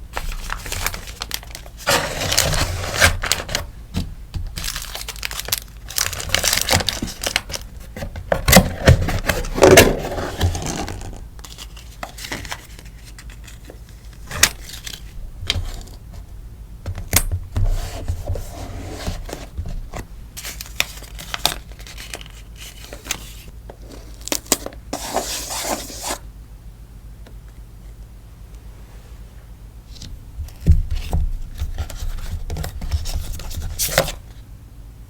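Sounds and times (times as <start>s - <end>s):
plastic and paper rustling: 0.1s - 3.8s, 4.4s - 16.1s, 17.6s - 26.2s, 29.9s - 34.4s.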